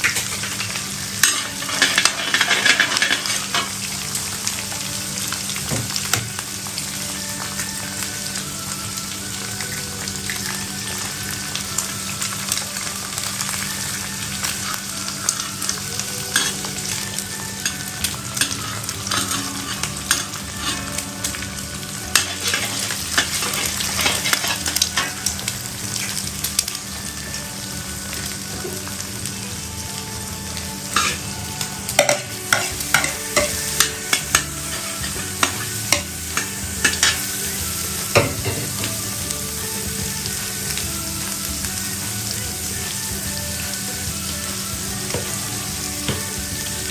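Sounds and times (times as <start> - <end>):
food sizzling in a hot pan: 0.0 - 46.9.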